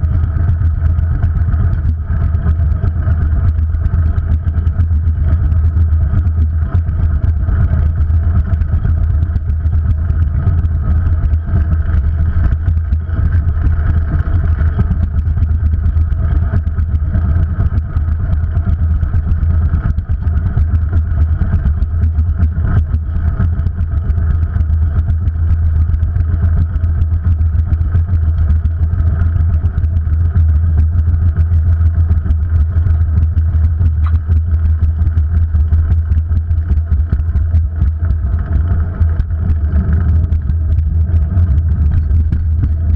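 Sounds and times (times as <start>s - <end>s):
wind rumble on microphone: 0.0s - 42.9s.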